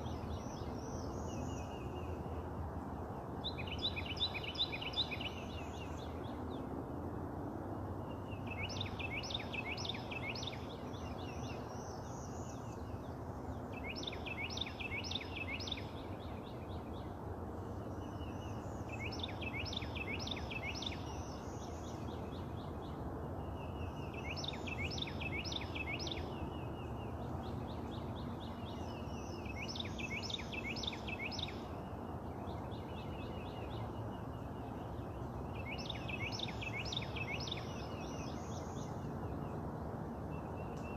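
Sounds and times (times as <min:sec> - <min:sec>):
steady background noise: 0:00.0 - 0:40.9.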